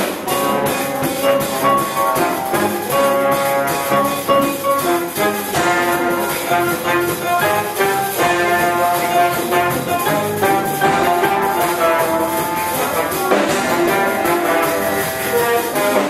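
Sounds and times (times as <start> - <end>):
live jazz band playing: 0.0 - 16.0
trumpet and trombone held notes: 0.0 - 16.0.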